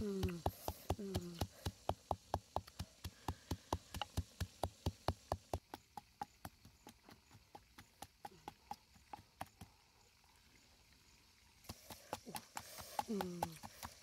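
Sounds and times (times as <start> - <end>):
pestle pounding in wooden mortar: 0.0 - 9.8, 11.6 - 14.0.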